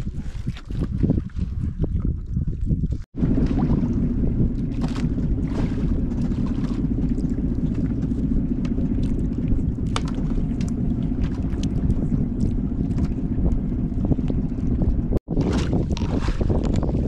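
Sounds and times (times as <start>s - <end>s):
boat engine droning: 3.2s - 17.0s.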